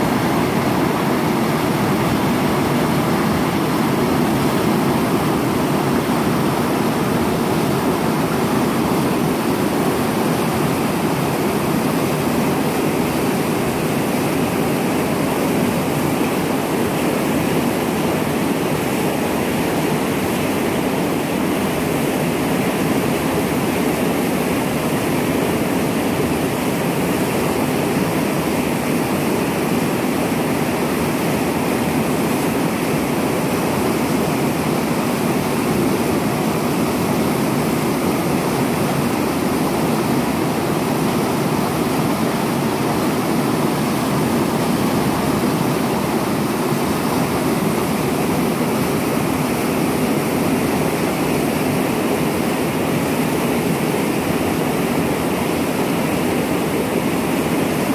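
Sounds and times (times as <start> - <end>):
river rapids rushing over boulders: 0.0 - 57.9.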